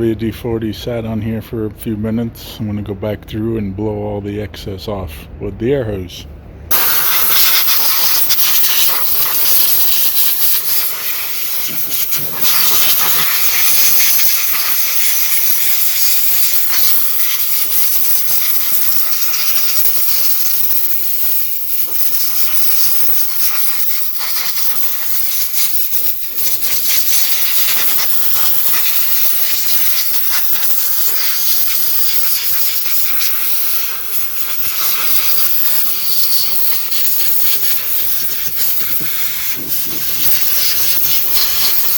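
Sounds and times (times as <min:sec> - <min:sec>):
compressed air hissing: 0:06.7 - 0:41.9.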